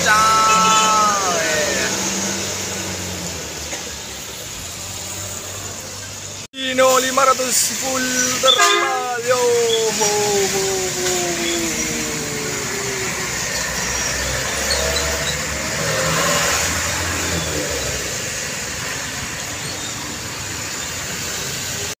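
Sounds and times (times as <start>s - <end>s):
truck engine rumble: 0.0s - 21.9s
tyre and road noise: 0.0s - 22.0s.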